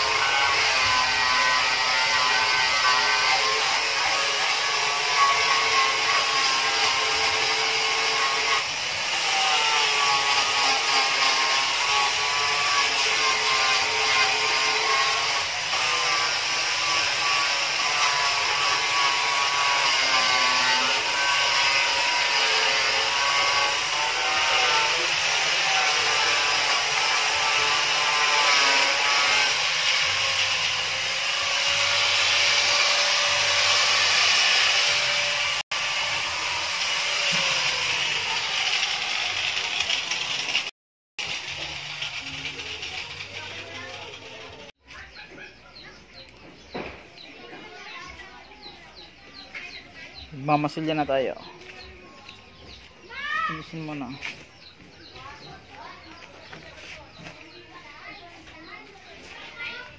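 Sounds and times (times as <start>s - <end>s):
angle grinder sanding wood: 0.0s - 59.9s.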